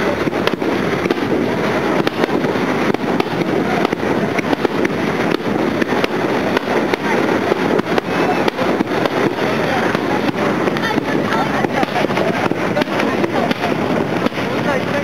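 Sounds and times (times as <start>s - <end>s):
fireworks barrage: 0.0s - 15.0s.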